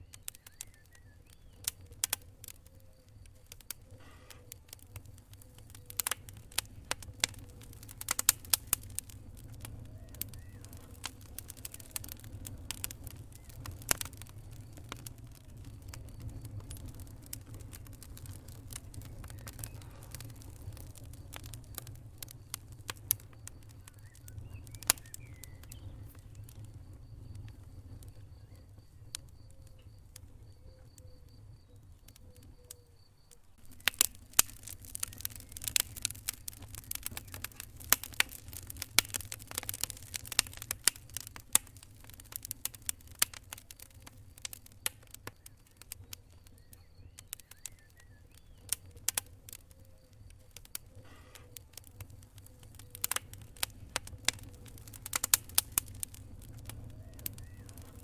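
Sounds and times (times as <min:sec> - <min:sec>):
low fire rumble: 0:00.0 - 0:58.0
wood fire pops and snaps: 0:00.0 - 0:58.0.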